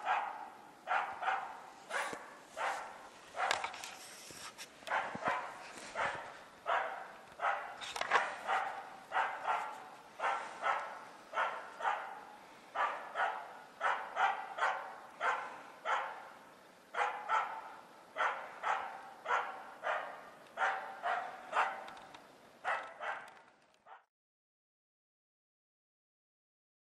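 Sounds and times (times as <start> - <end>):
dog barking: 0.0 - 3.8, 4.9 - 22.0, 22.6 - 24.1.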